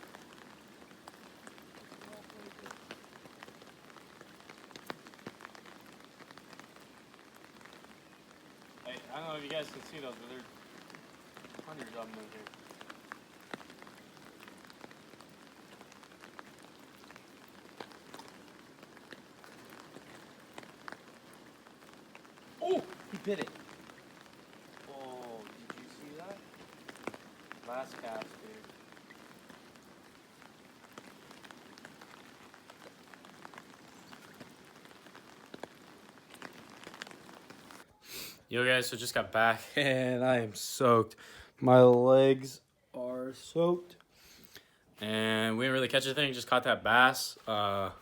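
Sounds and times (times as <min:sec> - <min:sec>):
raindrops ticking close by: 0:00.0 - 0:48.0
steady rain hissing: 0:00.0 - 0:48.0.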